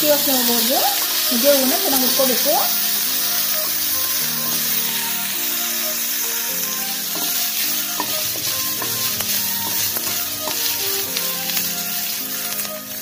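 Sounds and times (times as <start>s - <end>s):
food sizzling in hot oil: 0.0s - 13.0s
soft background music: 0.0s - 13.0s
spatula scraping a pan: 1.0s - 13.0s.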